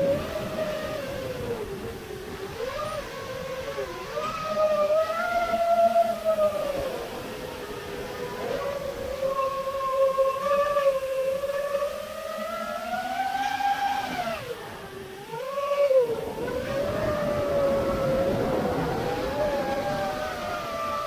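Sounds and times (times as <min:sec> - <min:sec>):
quadcopter propellers whining: 0:00.0 - 0:21.0.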